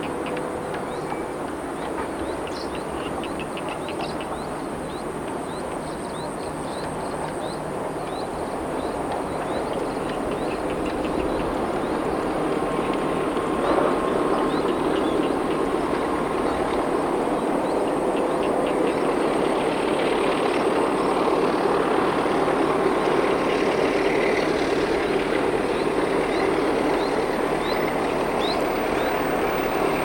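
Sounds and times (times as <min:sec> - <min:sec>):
train rumbling: 0:00.0 - 0:30.0
frogs chirping: 0:02.2 - 0:30.0.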